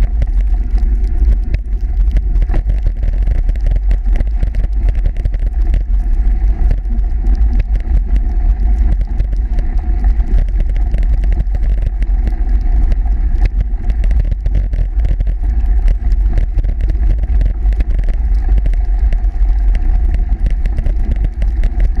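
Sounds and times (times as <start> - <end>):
wind and road noise rumble: 0.0 - 22.0.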